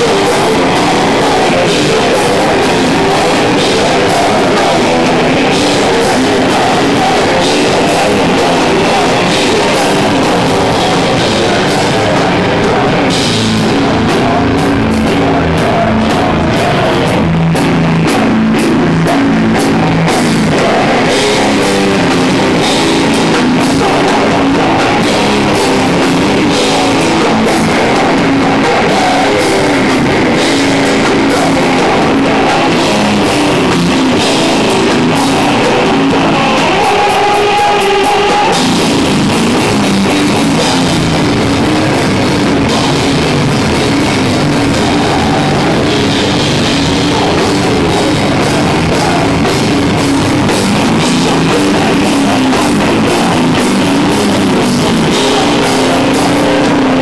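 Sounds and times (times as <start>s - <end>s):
distorted electric guitar: 0.0s - 57.0s
drum kit with crashing cymbals: 0.0s - 57.0s.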